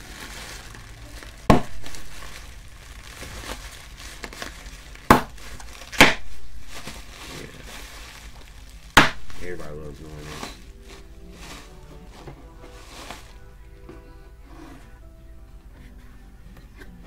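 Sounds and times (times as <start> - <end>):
packing pillows popping: 0.0 - 14.8
plastic packing pillows crinkling: 0.0 - 15.0.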